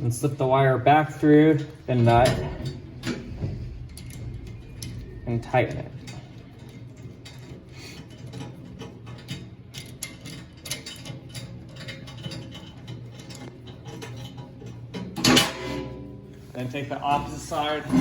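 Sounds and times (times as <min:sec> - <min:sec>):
quiet background music: 0:00.0 - 0:18.0.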